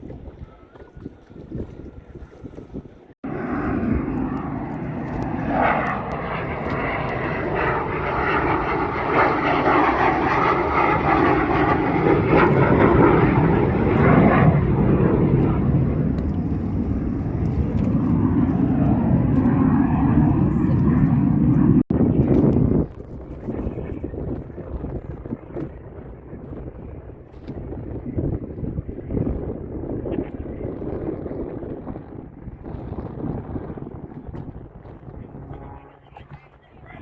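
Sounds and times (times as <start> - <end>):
airplane engine roar: 3.0 - 37.0.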